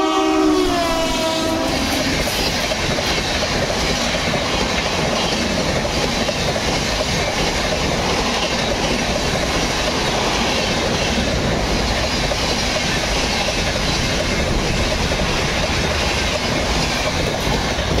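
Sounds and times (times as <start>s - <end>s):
train passing at high speed: 0.0s - 18.0s.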